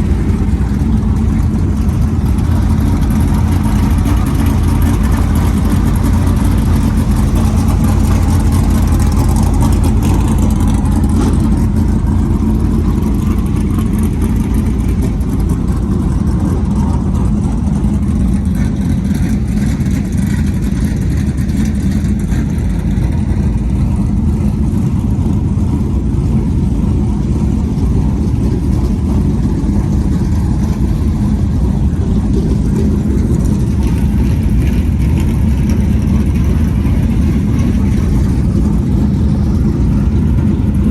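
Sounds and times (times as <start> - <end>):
race car engines rumbling: 0.0 - 40.9.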